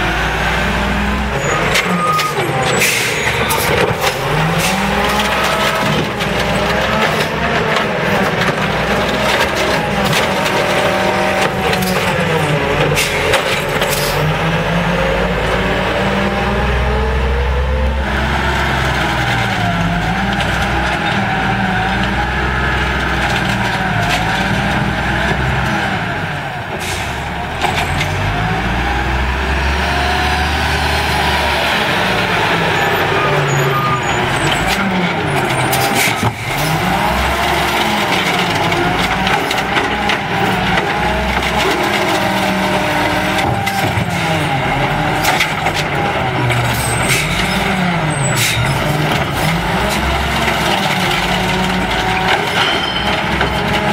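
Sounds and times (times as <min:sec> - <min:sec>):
garbage truck diesel engine: 0:00.0 - 0:53.9.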